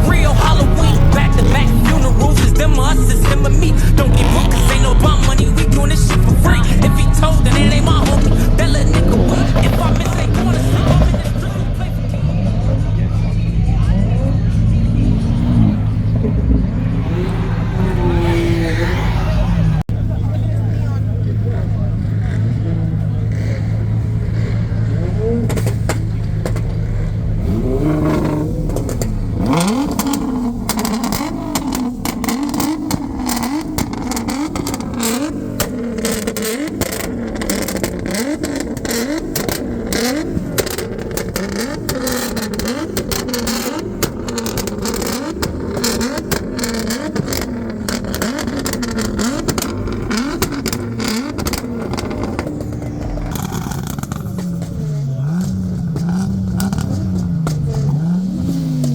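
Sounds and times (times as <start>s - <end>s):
car engine revving: 0.0s - 58.9s
sharp engine crackles: 0.0s - 58.9s.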